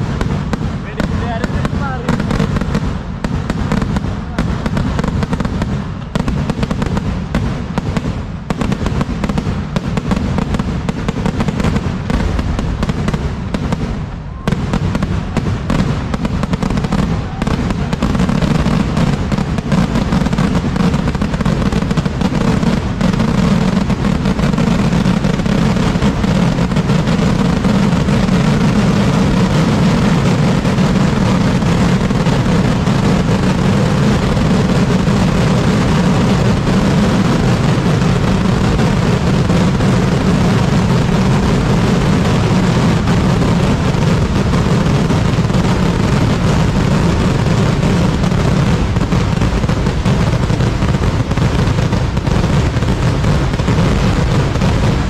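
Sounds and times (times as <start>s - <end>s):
firecracker barrage: 0.0s - 55.0s.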